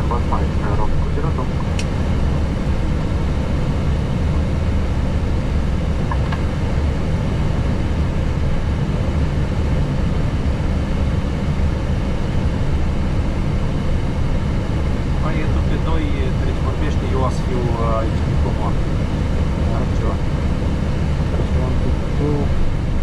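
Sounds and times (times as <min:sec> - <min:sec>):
aircraft cockpit rumble and hum: 0:00.0 - 0:23.0.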